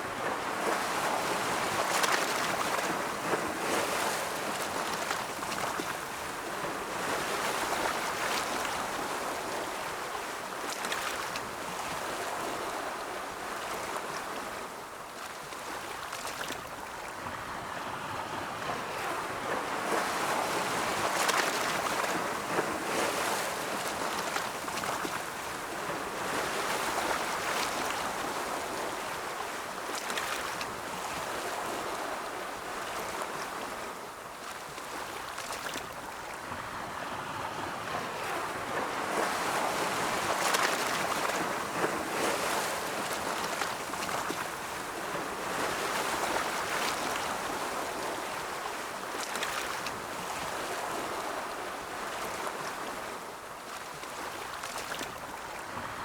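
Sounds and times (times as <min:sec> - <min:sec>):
ocean waves washing on shore: 0:00.0 - 0:56.0.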